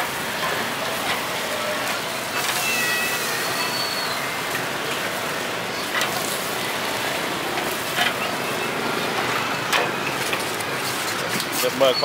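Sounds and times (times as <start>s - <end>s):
meat sizzling over fire: 0.0s - 11.9s.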